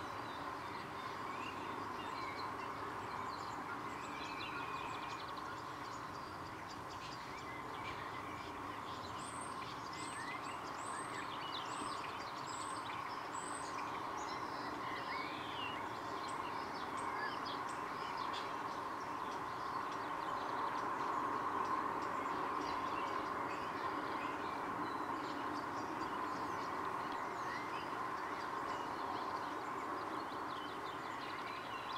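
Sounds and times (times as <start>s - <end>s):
background noise: 0.0s - 31.9s
birds singing and calling: 0.0s - 31.9s.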